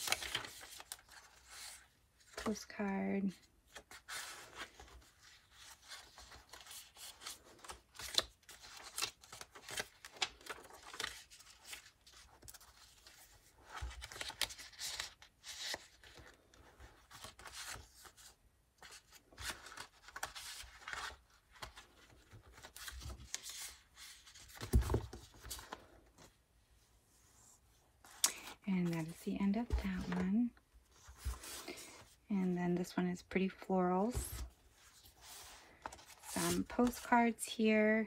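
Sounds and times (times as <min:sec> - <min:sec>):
paper pages rustling: 0:00.0 - 0:02.6, 0:03.7 - 0:26.4, 0:27.4 - 0:32.1, 0:34.0 - 0:37.4.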